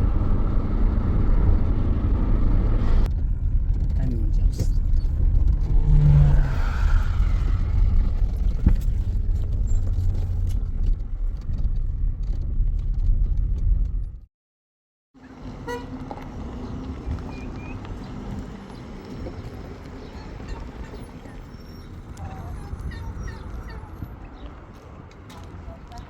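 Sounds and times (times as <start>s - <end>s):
motor vehicle rumble: 0.0s - 14.3s, 15.2s - 26.0s.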